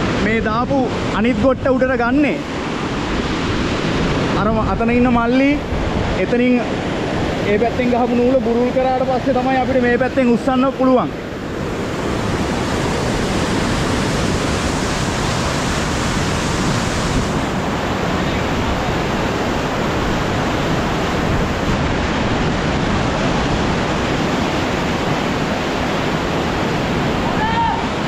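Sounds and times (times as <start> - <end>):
water rushing over a weir: 0.0 - 28.0.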